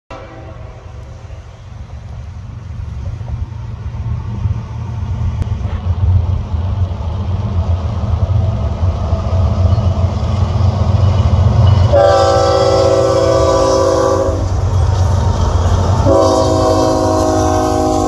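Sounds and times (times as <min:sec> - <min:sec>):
diesel locomotives rumbling: 0:00.1 - 0:18.0.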